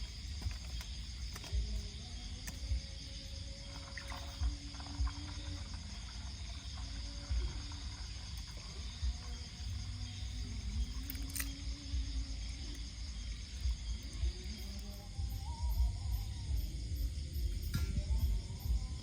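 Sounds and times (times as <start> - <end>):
insects chirring: 0.0 - 19.0
low fluctuating rumble: 1.1 - 19.0.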